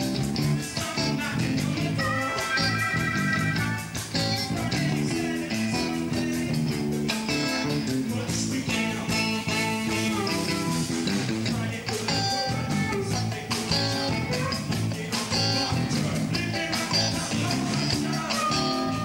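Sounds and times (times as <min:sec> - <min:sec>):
electric guitar: 0:00.0 - 0:19.0
live blues band playing: 0:00.0 - 0:19.0.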